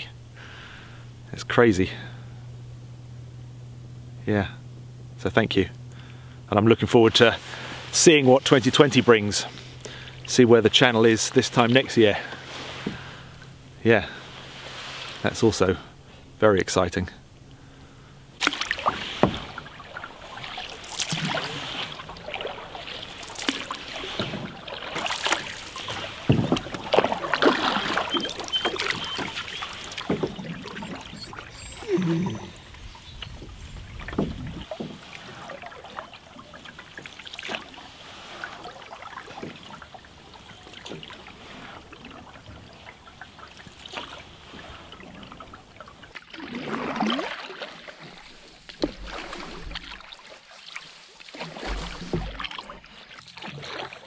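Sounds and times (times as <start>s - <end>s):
water moving along hull: 0.0s - 54.0s
paddle splashing in water: 6.8s - 16.4s, 17.5s - 54.0s.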